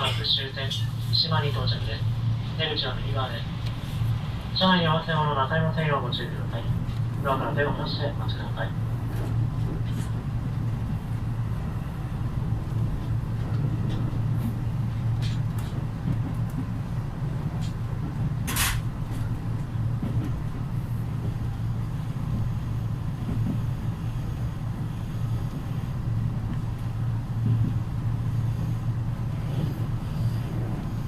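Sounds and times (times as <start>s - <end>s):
train carriage low rumble: 0.0s - 31.0s.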